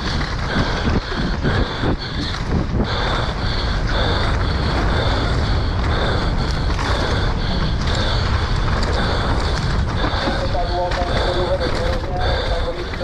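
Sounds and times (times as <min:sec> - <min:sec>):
bike rattling: 0:00.0 - 0:13.0
tyres rumbling on trail: 0:00.0 - 0:13.0
wind rush: 0:00.0 - 0:13.0.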